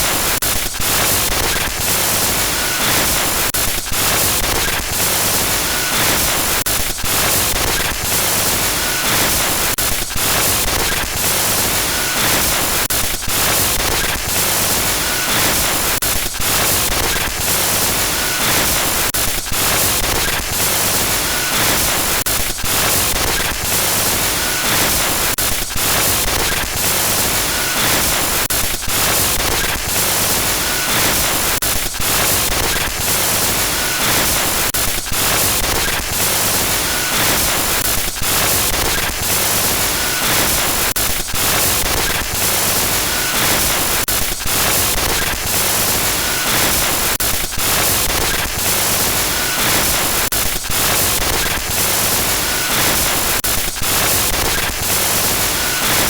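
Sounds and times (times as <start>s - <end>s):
loud static hiss: 0.0s - 56.0s.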